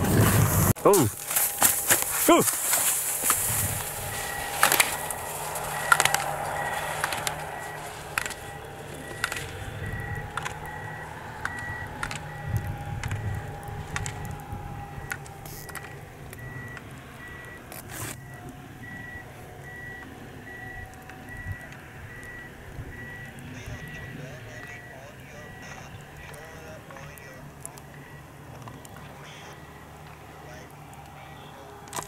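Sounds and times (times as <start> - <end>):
low engine rumble: 0.0 - 32.0
reversing beeper: 0.0 - 32.0.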